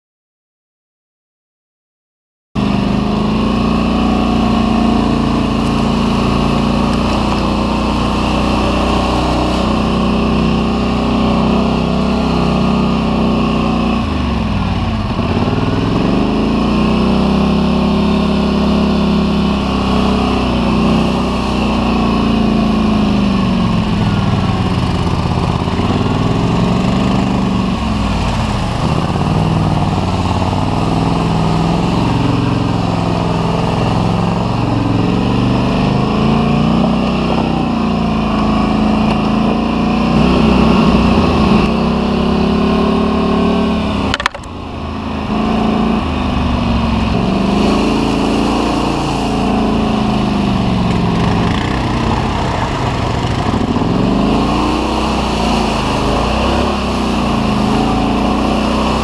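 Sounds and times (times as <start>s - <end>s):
atv engine revving: 2.6s - 59.0s.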